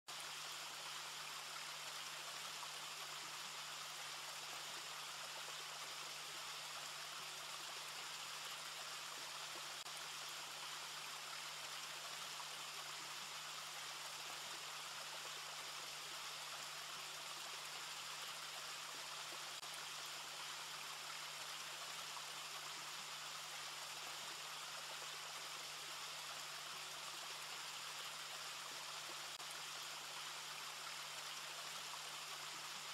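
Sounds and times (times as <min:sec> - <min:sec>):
steady hiss: 0:00.2 - 0:32.9.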